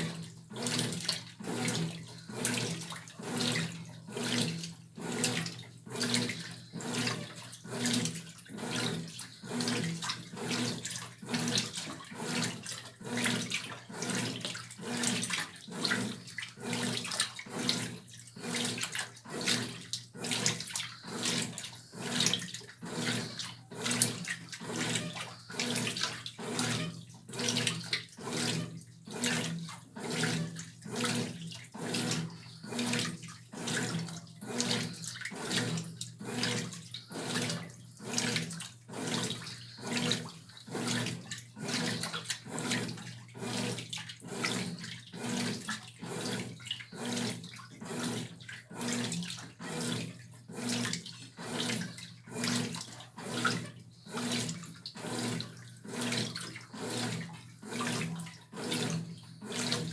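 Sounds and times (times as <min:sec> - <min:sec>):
washing machine low hum: 0:00.0 - 0:59.9
water sloshing in washing machine: 0:00.0 - 0:59.9.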